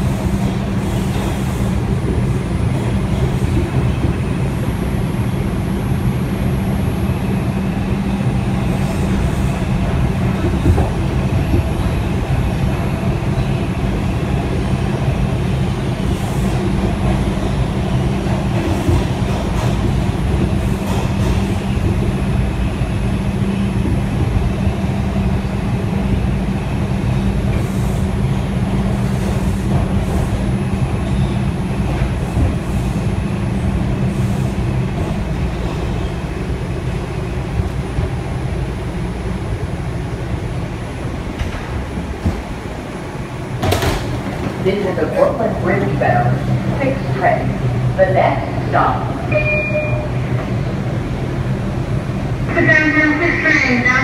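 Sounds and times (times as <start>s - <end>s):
subway wheels rumbling on rails: 0.0s - 54.0s.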